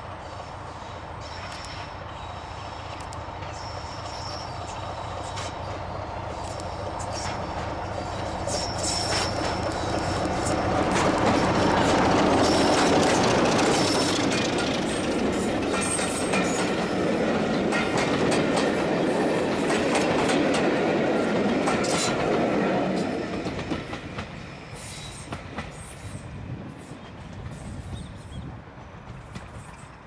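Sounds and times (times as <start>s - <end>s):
train wheels clicking over rail joints: 1.2s - 30.0s.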